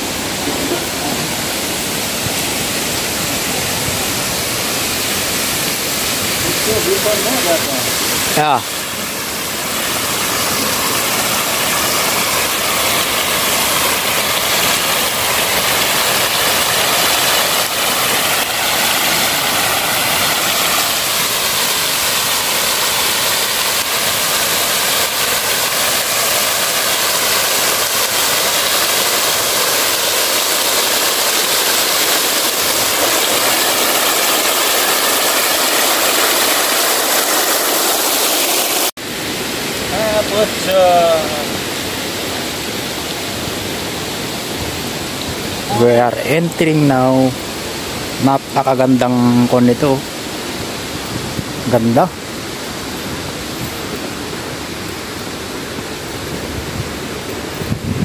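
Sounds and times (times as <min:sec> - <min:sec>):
fountain water splashing into pool: 0:00.0 - 0:58.0.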